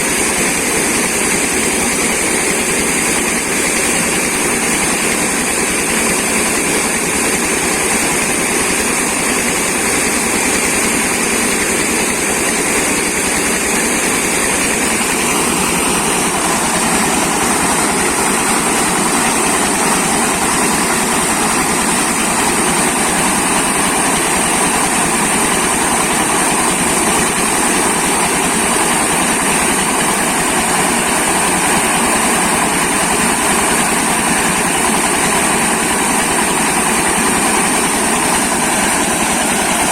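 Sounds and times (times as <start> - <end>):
grinding mill running: 0.0 - 39.9.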